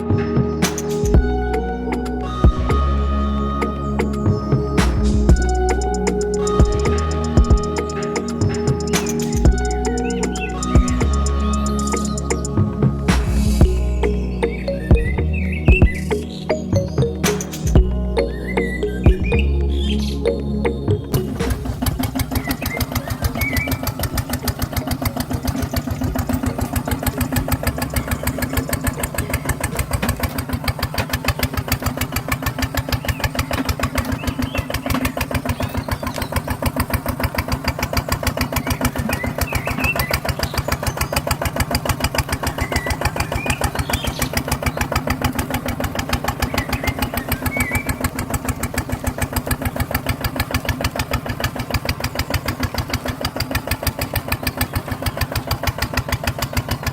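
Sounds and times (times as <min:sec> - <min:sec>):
small engine puttering: 0:00.0 - 0:56.9.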